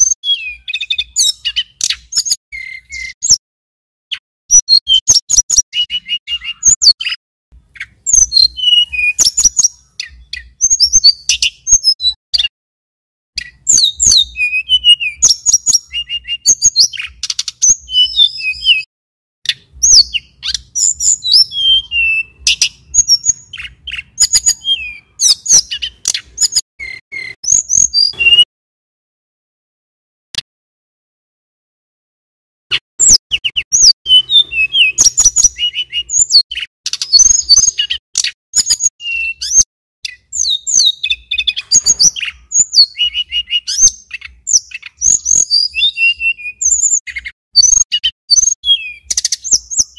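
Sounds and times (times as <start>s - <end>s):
bird singing high whistles and trills: 0.0s - 3.4s, 4.1s - 12.5s, 13.4s - 18.9s, 19.5s - 28.5s, 32.7s - 49.9s.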